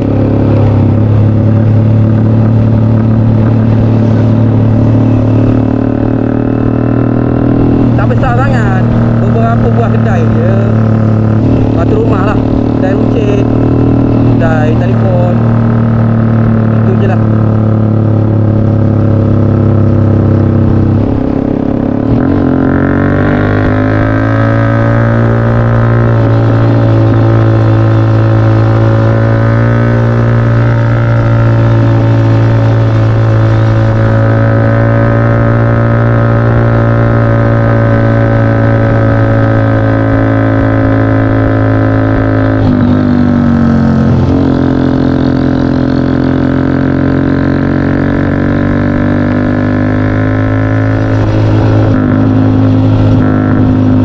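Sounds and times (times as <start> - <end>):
engine droning while driving: 0.0 - 54.0.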